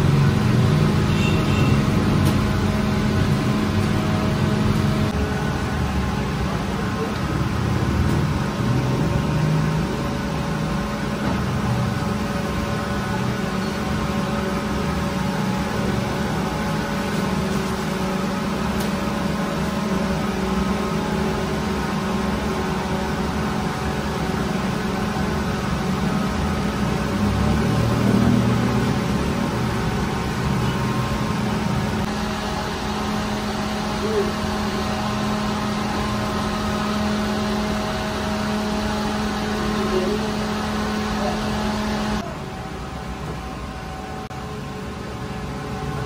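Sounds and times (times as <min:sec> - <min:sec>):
bakery machinery hum: 0:00.0 - 0:46.0.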